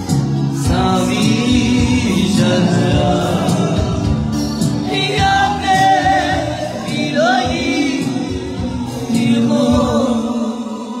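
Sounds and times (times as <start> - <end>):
backing music: 0.0 - 11.0
man singing into a microphone: 0.0 - 11.0.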